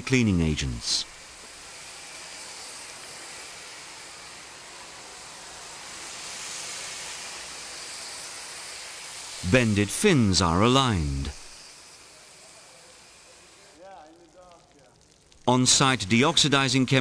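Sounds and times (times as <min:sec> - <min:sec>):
spray lance hissing: 0:00.3 - 0:16.2.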